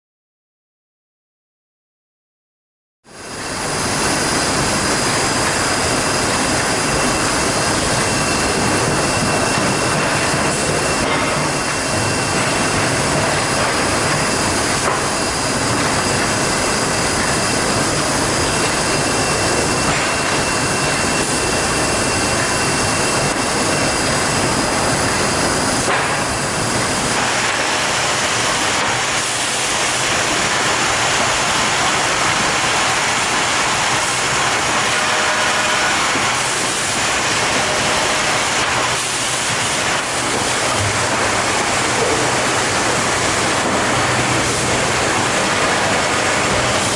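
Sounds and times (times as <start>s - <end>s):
machine whirring: 3.1s - 46.9s.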